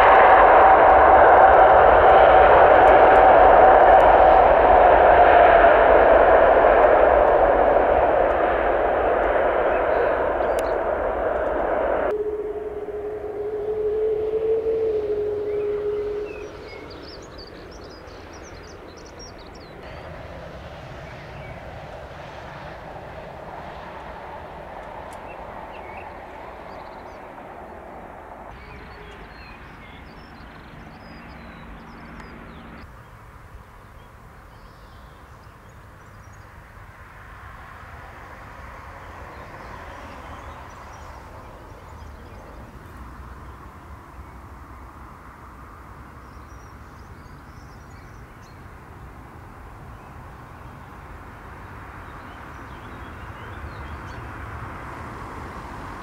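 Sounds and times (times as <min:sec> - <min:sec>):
distant jet aircraft rumble: 0:00.0 - 0:56.0.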